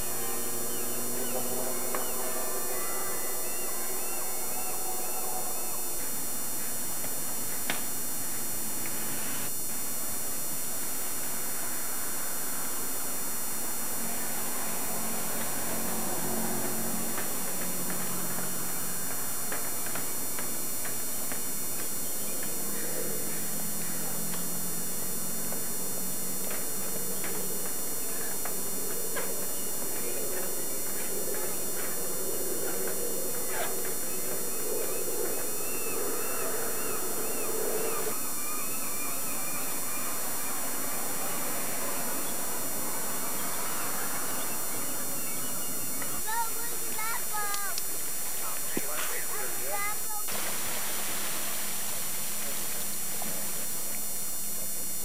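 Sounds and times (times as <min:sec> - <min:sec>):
faint low humming: 0:00.0 - 0:55.0
steady hiss: 0:00.0 - 0:55.0.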